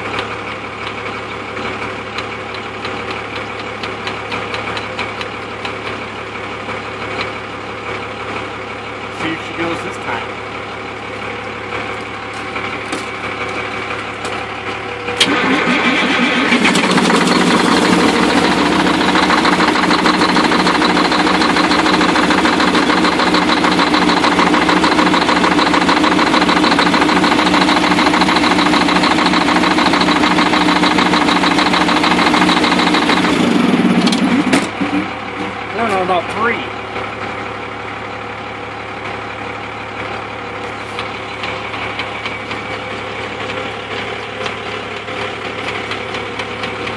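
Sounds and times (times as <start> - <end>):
diesel engine cranking: 0.0 - 46.9
diesel engine running and coughing: 0.0 - 46.9.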